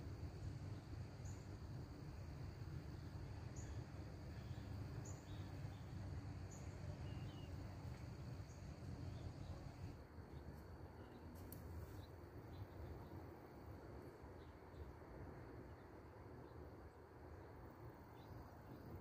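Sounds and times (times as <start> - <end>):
high insect drone: 0.0 - 19.0
low steady rumble: 0.0 - 19.0.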